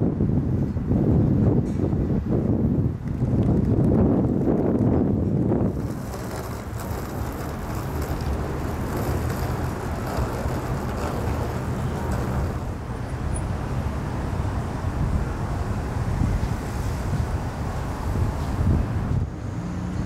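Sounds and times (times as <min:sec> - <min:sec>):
passing cars: 0:00.0 - 0:20.0
wind gust on microphone: 0:00.0 - 0:20.0.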